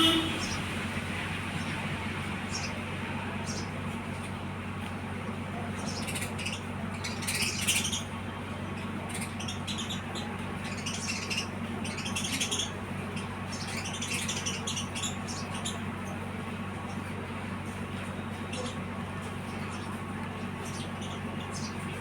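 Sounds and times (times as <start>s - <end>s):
sparrows chirping: 0.0s - 22.0s
steady low hum: 0.0s - 22.0s.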